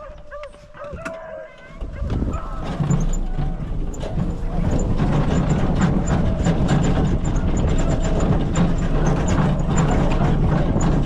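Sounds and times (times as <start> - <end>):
knocks and rattles: 0.0 - 11.0
small vehicle engine running: 1.7 - 11.0.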